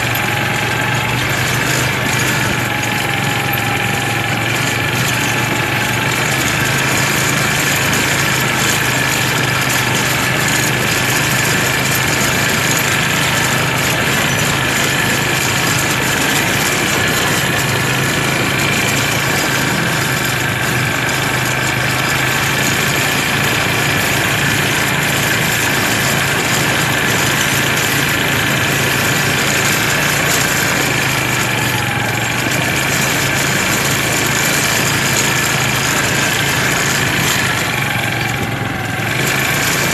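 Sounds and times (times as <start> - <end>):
atv engines running: 0.0 - 39.9.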